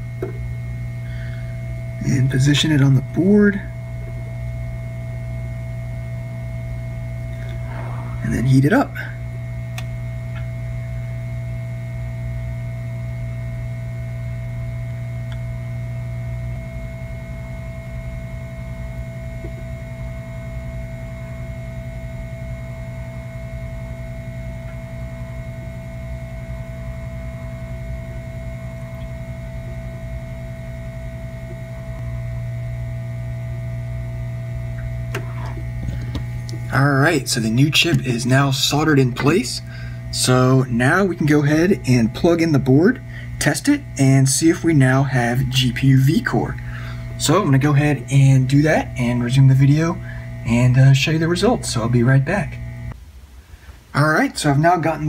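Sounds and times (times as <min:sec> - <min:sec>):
faint steady whine: 0:00.0 - 0:55.0
hot air blower hum: 0:00.0 - 0:55.0.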